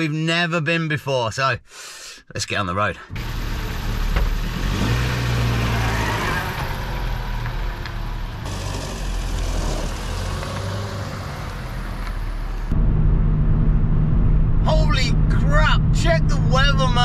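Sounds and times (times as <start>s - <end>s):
car engine hum: 3.1s - 17.0s
tyre and road noise: 3.1s - 17.0s.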